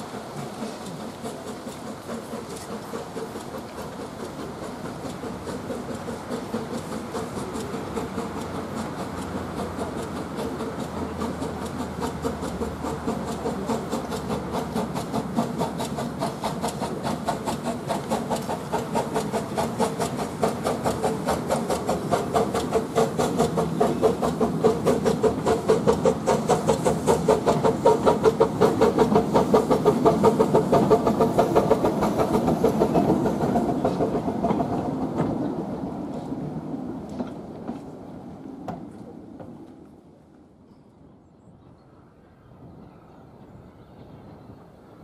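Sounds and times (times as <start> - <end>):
steam locomotive chuffing: 0.0 - 40.1.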